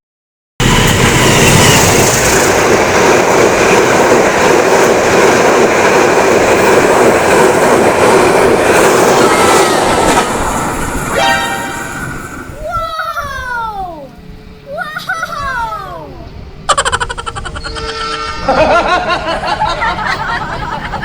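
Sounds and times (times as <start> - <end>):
train wheels on rails: 0.6 - 15.8, 16.6 - 21.0.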